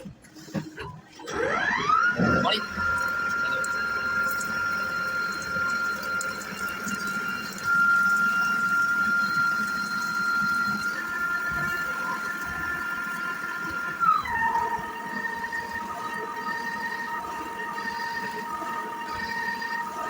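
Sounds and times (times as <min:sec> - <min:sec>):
router spindle whining: 0:00.0 - 0:20.0.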